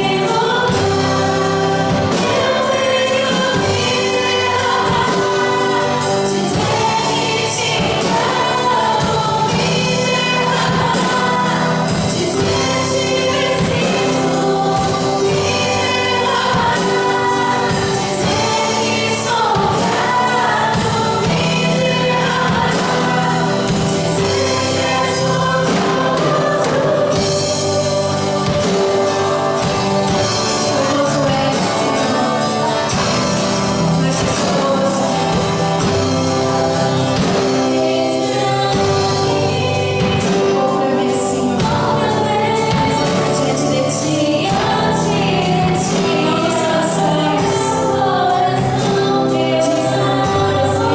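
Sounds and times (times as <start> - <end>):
group singing gospel song: 0.0 - 50.9
instrumental accompaniment: 0.0 - 50.9.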